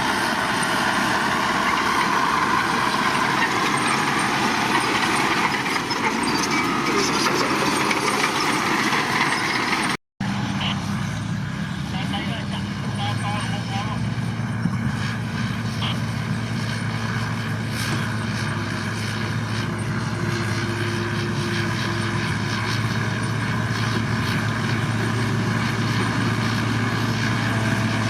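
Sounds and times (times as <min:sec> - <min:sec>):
heavy machinery diesel engine: 0:00.0 - 0:28.0.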